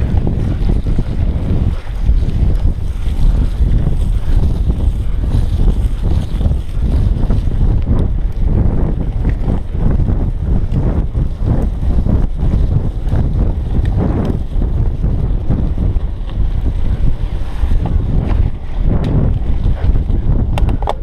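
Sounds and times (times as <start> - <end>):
bike rattling: 0.0 - 21.0
bike tyres rumbling on dirt: 0.0 - 21.0
wind buffeting microphone: 0.0 - 21.0.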